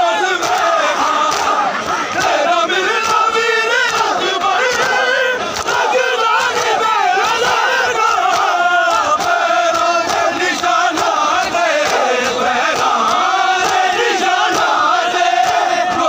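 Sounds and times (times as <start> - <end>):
men chanting a lament: 0.0 - 16.0
hands slapping bare chests: 0.4 - 6.8, 7.4 - 13.9, 15.4 - 16.0.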